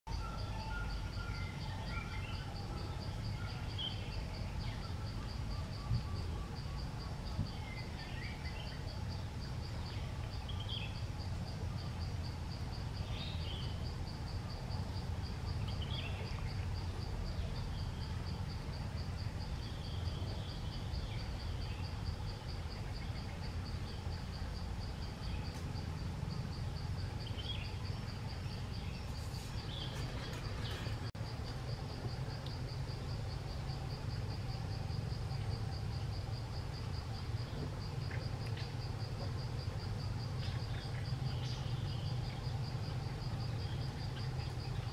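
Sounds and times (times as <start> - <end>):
insect trilling: 0.1 - 44.9.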